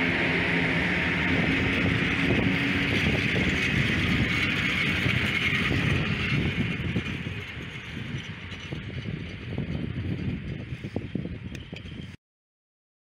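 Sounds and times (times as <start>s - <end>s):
train wheels rumbling on rails: 0.0s - 12.2s.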